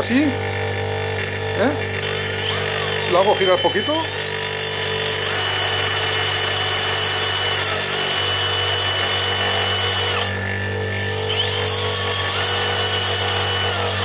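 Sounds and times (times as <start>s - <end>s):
bench grinder running: 0.0s - 14.0s
thin high grinding whine: 0.0s - 14.0s.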